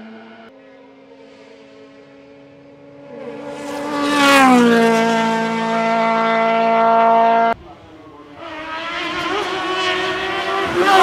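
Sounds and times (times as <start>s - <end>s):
race car passing at high revs: 0.0s - 11.0s.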